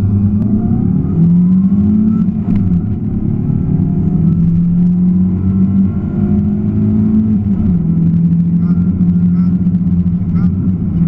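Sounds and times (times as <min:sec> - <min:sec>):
rally car engine running hard: 0:00.0 - 0:11.0.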